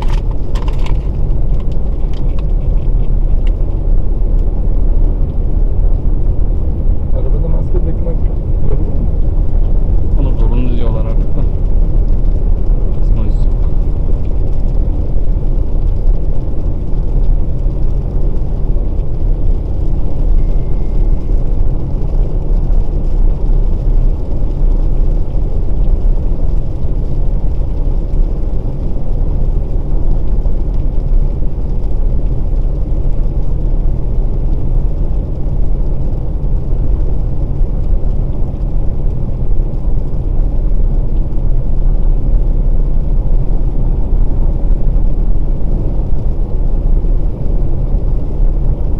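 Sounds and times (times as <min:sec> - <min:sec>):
car interior road and engine noise: 0:00.0 - 0:48.9.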